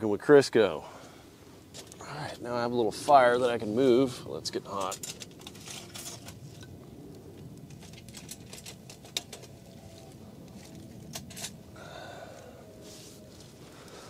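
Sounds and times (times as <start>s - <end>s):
wood fire crackling: 0.1s - 14.0s
rushing flame: 0.6s - 14.0s.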